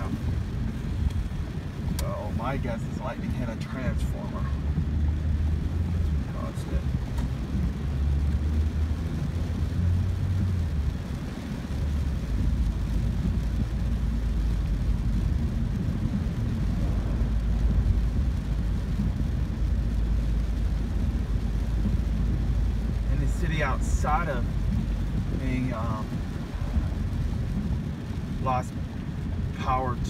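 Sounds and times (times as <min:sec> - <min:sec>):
car driving on wet road: 0:00.0 - 0:30.0
hiss of tyres and rain: 0:00.0 - 0:30.0.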